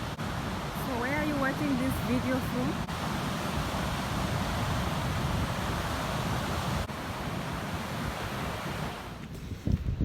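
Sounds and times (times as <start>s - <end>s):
ocean surf rushing: 0.0s - 9.3s
wind buffeting microphone: 0.0s - 10.0s.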